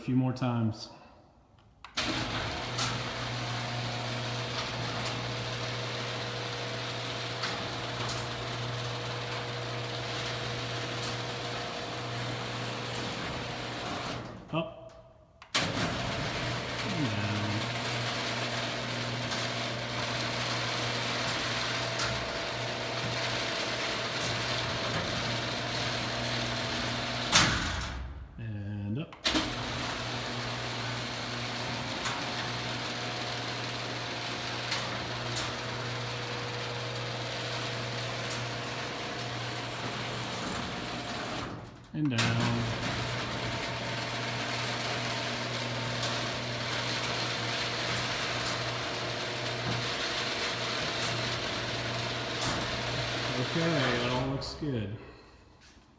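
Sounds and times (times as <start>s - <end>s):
garage door opener motor humming: 1.9s - 28.2s, 29.2s - 55.4s.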